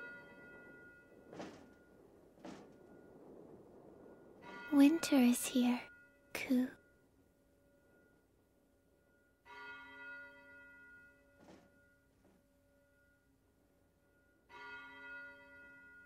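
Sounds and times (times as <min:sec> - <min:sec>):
large church bell tolling: 0:00.0 - 0:13.3, 0:14.2 - 0:16.0.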